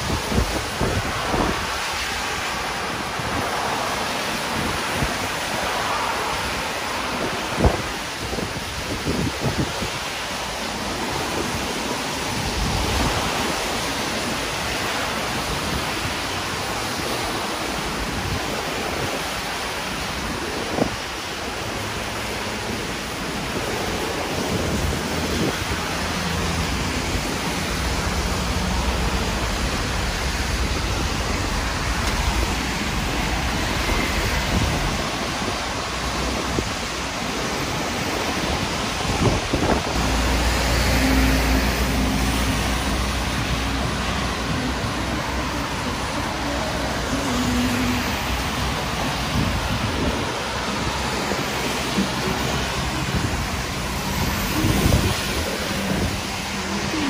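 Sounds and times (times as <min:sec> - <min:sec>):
heavy rain falling: 0:00.0 - 0:57.0
wind gusting on microphone: 0:00.0 - 0:57.0.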